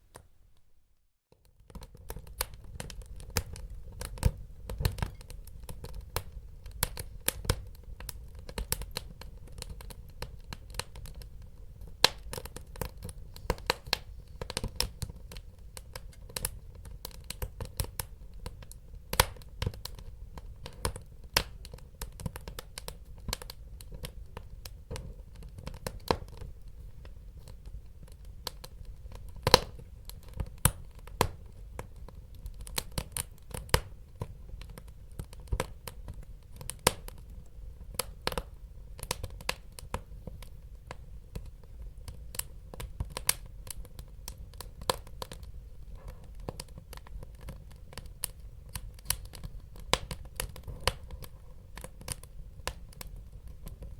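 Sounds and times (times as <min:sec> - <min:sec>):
wood fire crackling: 0:01.4 - 0:53.9.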